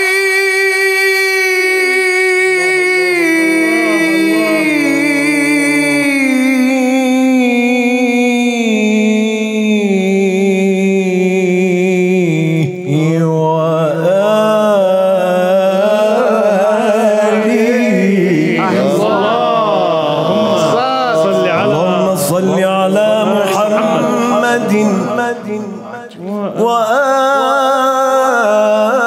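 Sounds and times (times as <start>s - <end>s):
man singing unaccompanied: 0.0s - 29.0s.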